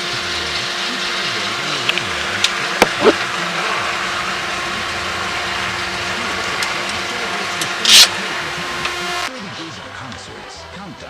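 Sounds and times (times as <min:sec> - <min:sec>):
twin piston aircraft engines droning: 0:00.0 - 0:11.0.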